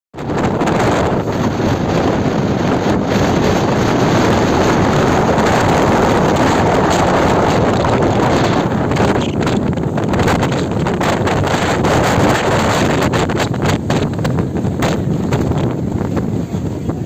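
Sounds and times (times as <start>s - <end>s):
boat rushing through water: 0.2s - 17.0s
wind buffeting microphone: 0.2s - 17.0s.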